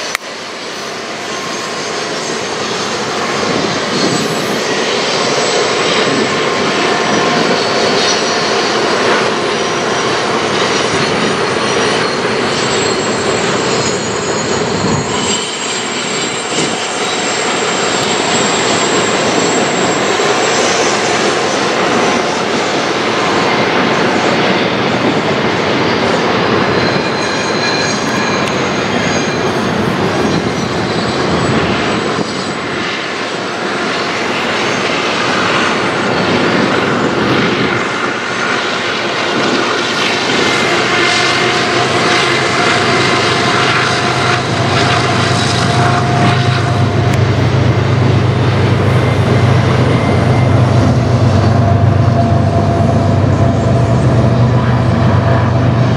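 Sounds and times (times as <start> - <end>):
diesel locomotive engine drone: 0.0 - 55.9
freight train wheels rumbling: 0.0 - 55.9.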